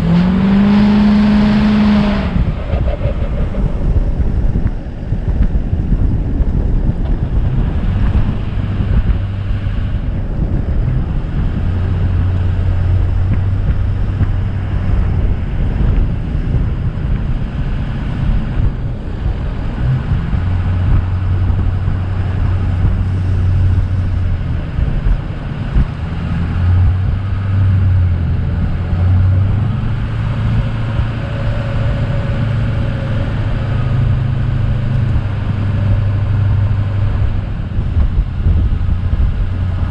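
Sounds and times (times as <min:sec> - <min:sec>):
vehicle engine hum: 0:00.0 - 0:39.9
wind and road rush: 0:00.0 - 0:39.9.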